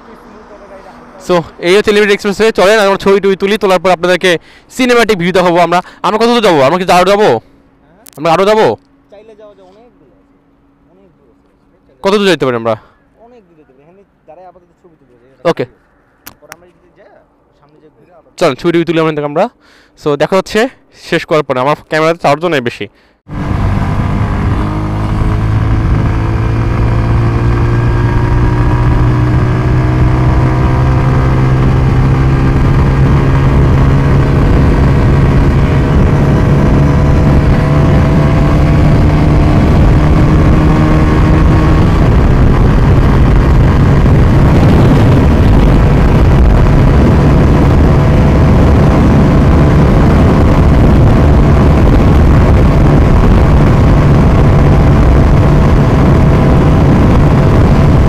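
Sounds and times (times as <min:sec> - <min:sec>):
wind and road rumble: 0:00.0 - 0:20.7, 0:21.8 - 0:58.0.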